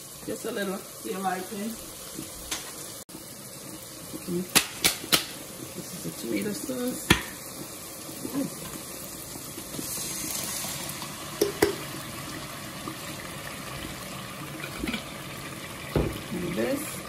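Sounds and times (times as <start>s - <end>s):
sauce pouring into a pot: 1.8s - 17.0s.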